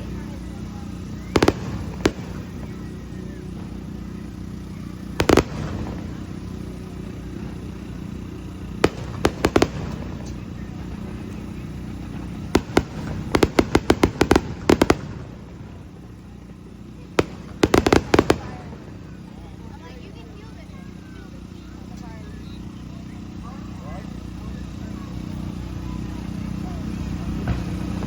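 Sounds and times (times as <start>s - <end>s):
background rumble: 0.0s - 23.4s
fireworks bangs: 0.0s - 23.4s, 26.2s - 28.0s.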